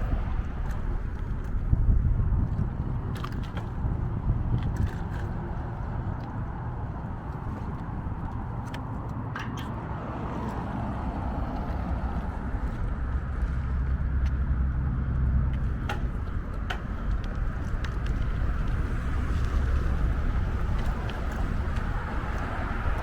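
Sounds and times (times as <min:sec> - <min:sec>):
bicycle ride rumble: 0:00.0 - 0:23.0.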